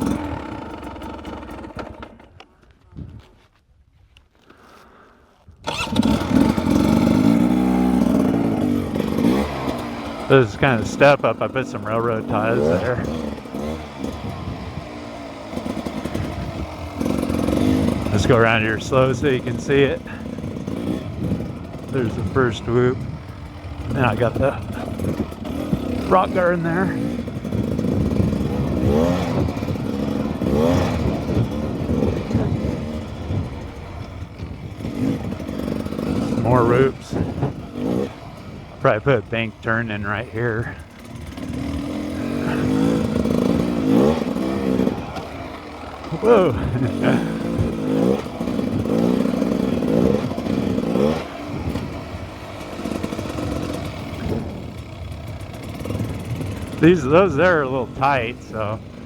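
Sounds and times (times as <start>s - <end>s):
dirt bike engine throttle blips: 0.0s - 3.5s, 4.5s - 59.0s.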